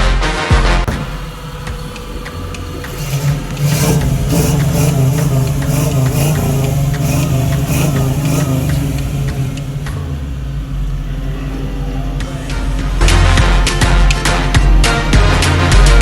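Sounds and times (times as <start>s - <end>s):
car engine and exhaust driving: 0.8s - 16.0s.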